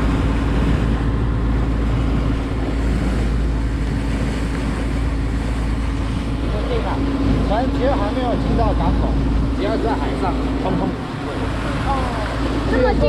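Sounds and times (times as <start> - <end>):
boat engine droning: 0.0 - 13.0
rushing water: 0.0 - 13.0
wind: 0.0 - 13.0.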